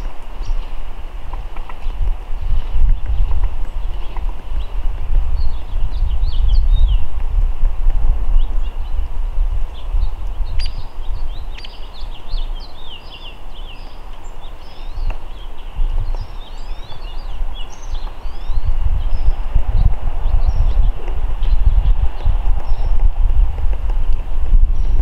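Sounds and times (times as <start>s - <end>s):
small birds chirping: 0.0s - 7.4s, 8.0s - 25.0s.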